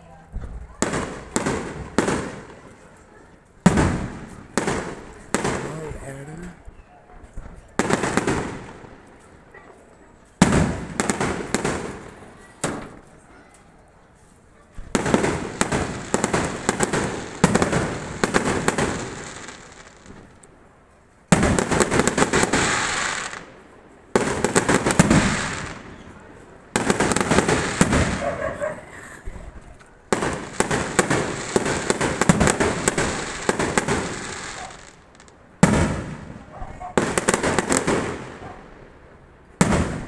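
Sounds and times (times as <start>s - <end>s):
fireworks crackling and popping: 0.0s - 6.8s, 7.4s - 9.5s, 10.2s - 13.2s, 14.7s - 40.0s.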